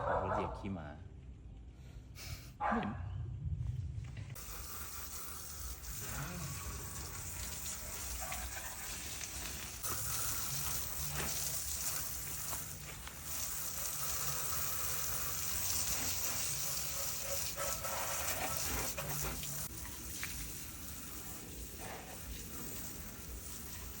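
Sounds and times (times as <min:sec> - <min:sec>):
garden hose spraying water: 0:04.3 - 0:24.0.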